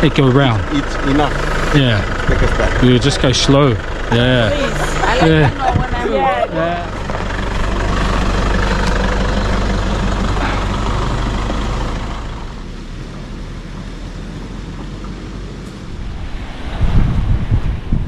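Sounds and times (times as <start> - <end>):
vehicle engine running: 0.0 - 16.6
road noise: 0.0 - 18.0.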